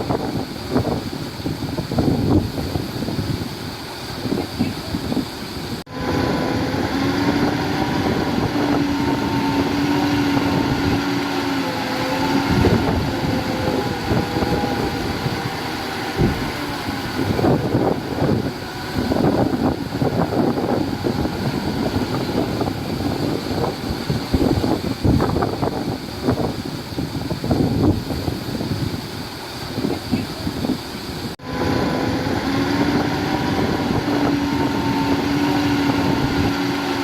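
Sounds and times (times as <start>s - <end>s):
heavy diesel machinery engines: 0.0s - 37.0s.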